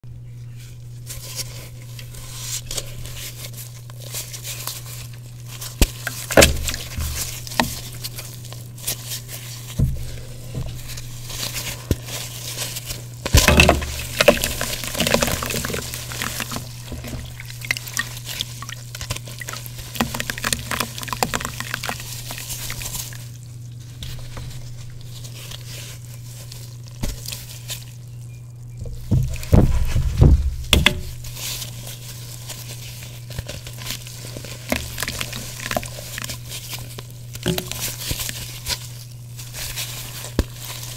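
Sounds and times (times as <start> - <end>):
steady low hum: 0.0 - 40.9
wet chalk crumbling and crushing: 1.0 - 40.9.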